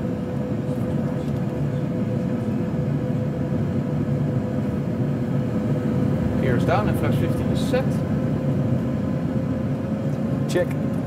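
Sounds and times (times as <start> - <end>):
simulated engine and airflow rumble: 0.0 - 11.0
steady hum: 0.0 - 11.0.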